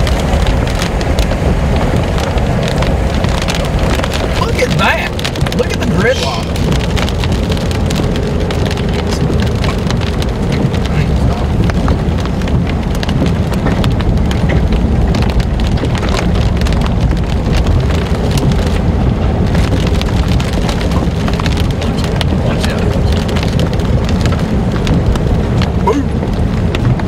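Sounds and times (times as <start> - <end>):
hail clattering on vehicle roof: 0.0 - 27.0
tyres rumbling on wet road: 0.0 - 27.0.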